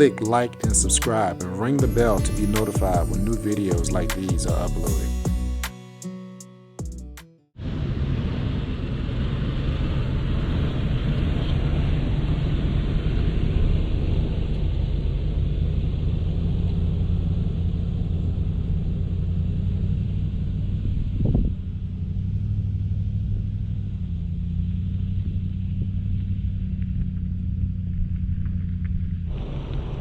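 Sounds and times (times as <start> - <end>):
low exhaust drone: 0.0 - 5.6, 7.6 - 30.0.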